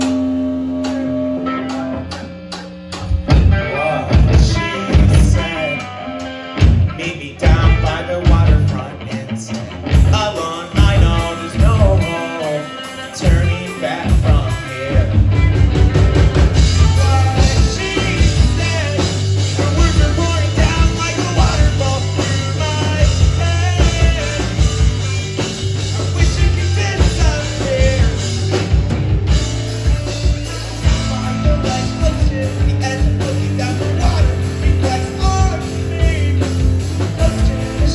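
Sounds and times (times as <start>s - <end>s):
person singing: 0.0s - 15.4s, 16.5s - 28.6s, 30.4s - 37.9s
rock band playing live: 0.0s - 37.9s.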